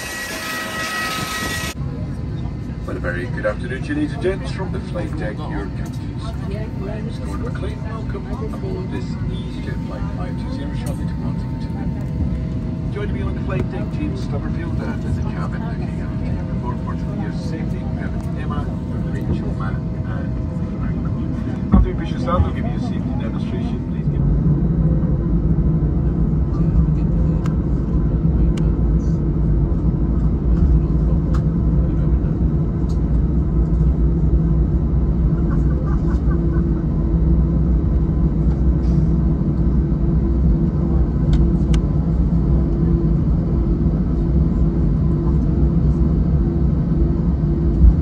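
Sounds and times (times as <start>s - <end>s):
aircraft cabin drone: 0.0s - 48.0s.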